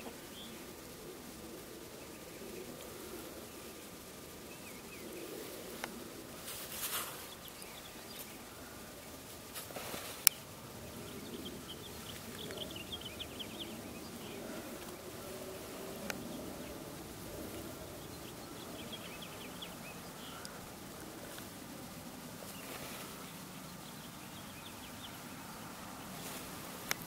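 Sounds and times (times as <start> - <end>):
hens murmuring: 0.0 - 27.0.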